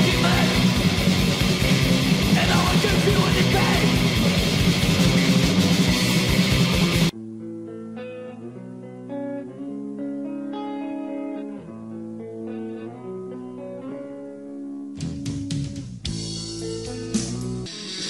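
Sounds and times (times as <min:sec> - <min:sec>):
slow metal guitar notes and chords: 0:00.0 - 0:17.7.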